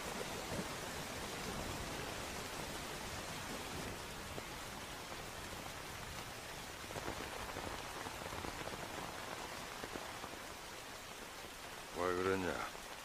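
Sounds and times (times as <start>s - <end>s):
rain falling on wet ground: 0.0s - 13.0s.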